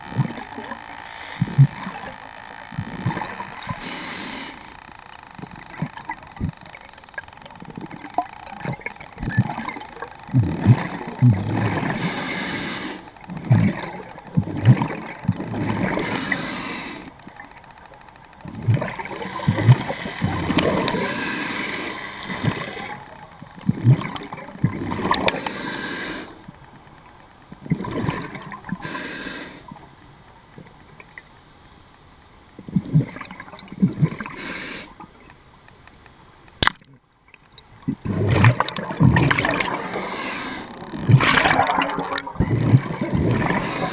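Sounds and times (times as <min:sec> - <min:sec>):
underwater gurgling and bubbling: 0:00.0 - 0:29.9, 0:32.6 - 0:35.3, 0:37.5 - 0:43.9.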